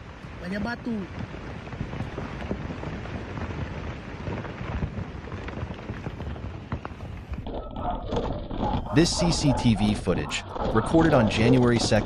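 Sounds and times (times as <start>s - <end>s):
volcano crackles: 0.0s - 12.0s
volcano rumbling: 0.0s - 12.0s.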